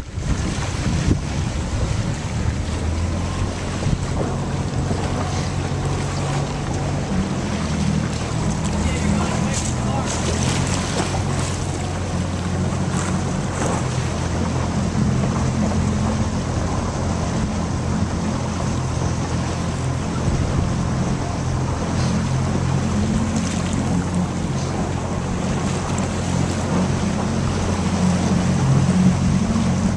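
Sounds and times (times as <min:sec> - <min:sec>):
choppy water splashing: 0:00.0 - 0:29.9
steady low rumble: 0:00.0 - 0:29.9
wind buffeting microphone: 0:00.0 - 0:29.9.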